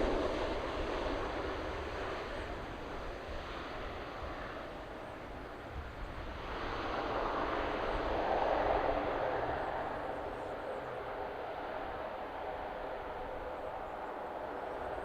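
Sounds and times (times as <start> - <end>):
airplane passing: 0.0 - 15.0.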